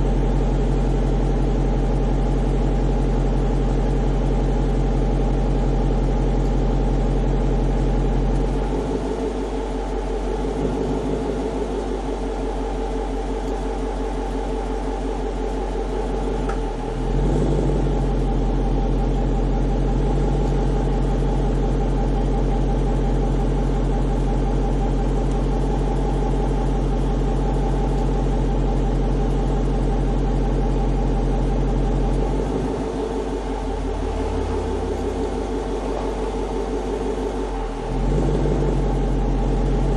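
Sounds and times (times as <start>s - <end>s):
car engine drone: 0.0s - 39.9s.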